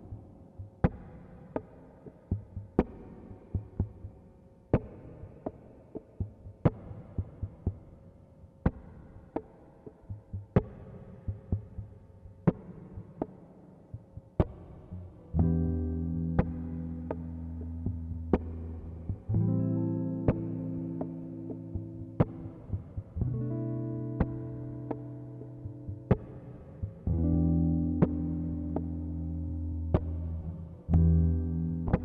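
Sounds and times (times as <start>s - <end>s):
music: 0.0s - 32.0s.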